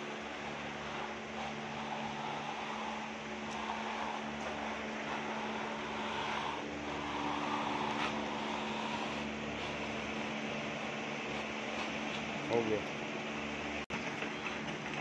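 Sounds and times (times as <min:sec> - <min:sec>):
template scraping wet plaster: 0:00.0 - 0:12.3
steady machine hum: 0:00.0 - 0:15.0.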